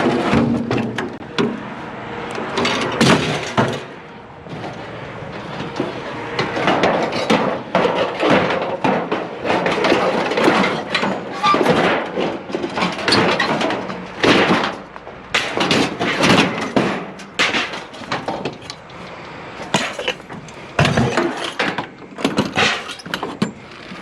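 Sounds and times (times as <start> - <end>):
scrap metal clanking and banging: 0.0 - 24.0.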